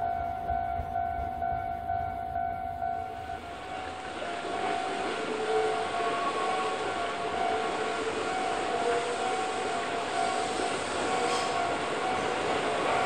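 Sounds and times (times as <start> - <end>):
rushing rail noise: 0.0 - 13.0
train high whine: 0.0 - 13.0.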